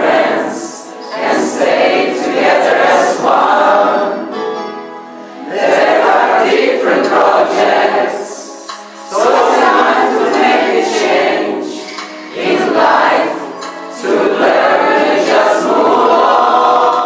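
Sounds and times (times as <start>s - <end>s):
choir singing held phrases: 0.0s - 4.4s, 5.2s - 17.0s
background music: 0.0s - 17.0s.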